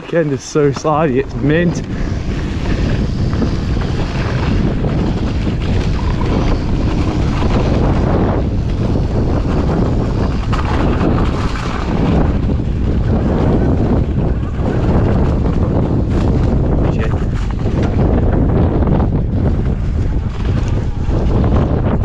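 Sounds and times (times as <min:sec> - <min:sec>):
tyres rumbling on snow: 0:00.0 - 0:22.0
wind buffeting microphone: 0:00.0 - 0:22.0
bike knocks and rattles: 0:02.9 - 0:22.0.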